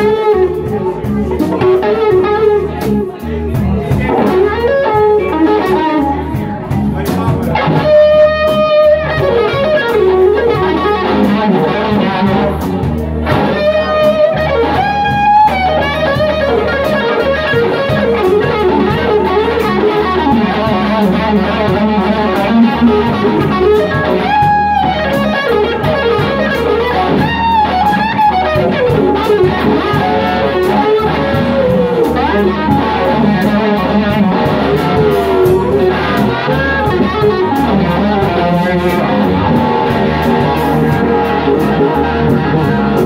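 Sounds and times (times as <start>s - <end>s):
bass guitar: 0.0s - 43.0s
drums: 0.0s - 43.0s
lead electric guitar held notes: 0.0s - 43.0s.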